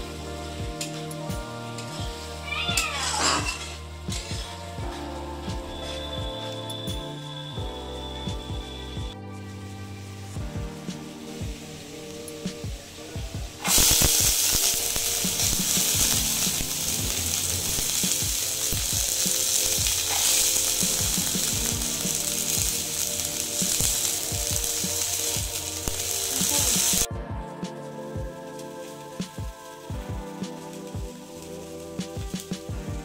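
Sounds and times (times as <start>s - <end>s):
peas sizzling in oil: 0.0s - 27.1s, 27.7s - 32.8s.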